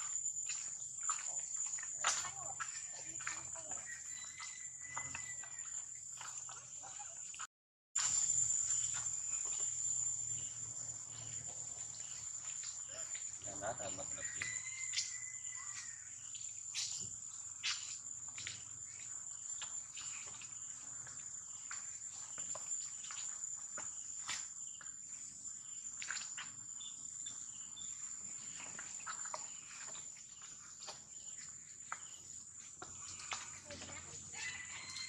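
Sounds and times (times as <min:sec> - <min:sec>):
high-pitched insect drone: 0:00.0 - 0:07.4, 0:08.0 - 0:35.0.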